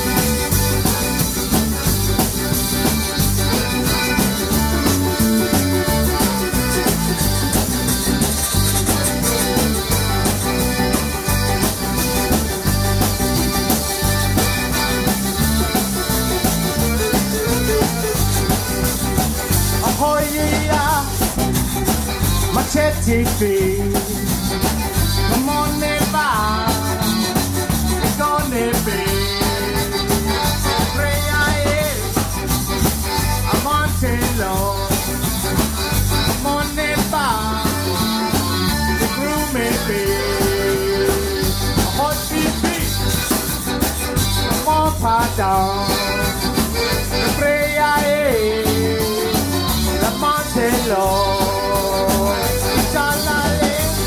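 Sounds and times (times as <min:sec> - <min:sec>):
drum kit: 0:00.0 - 0:54.0
electric bass: 0:00.0 - 0:54.0
electric guitar: 0:00.0 - 0:54.0
piano accordion melody: 0:00.0 - 0:54.0.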